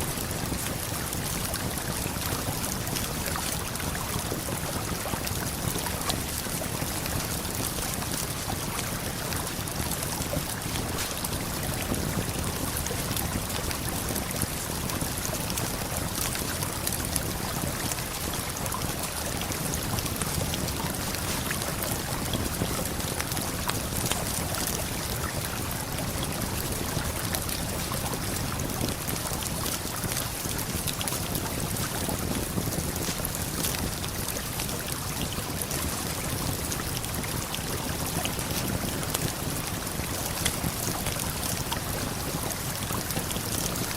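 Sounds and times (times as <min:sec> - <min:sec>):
waterfall and flowing river: 0:00.0 - 0:43.9
campfire crackling: 0:00.4 - 0:43.9.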